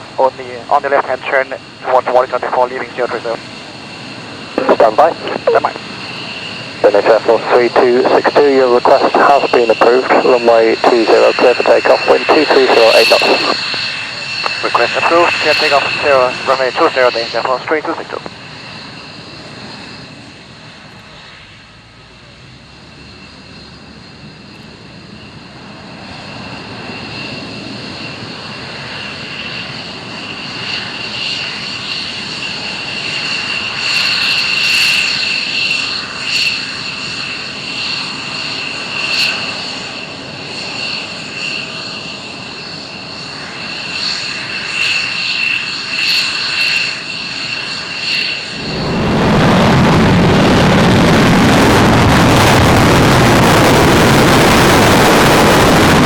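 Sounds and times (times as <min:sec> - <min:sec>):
jet turbine engines running up: 0:00.0 - 0:56.0.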